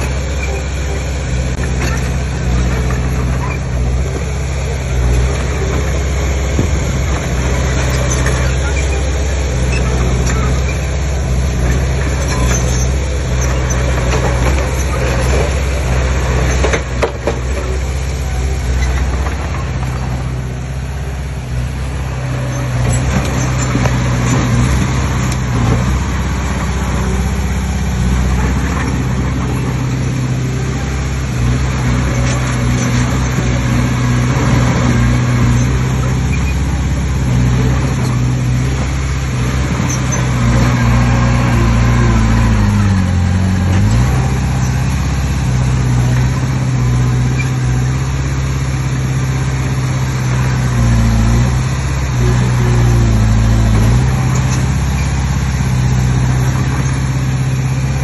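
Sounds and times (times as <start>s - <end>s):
heavy machine diesel engine running: 0.0s - 58.0s.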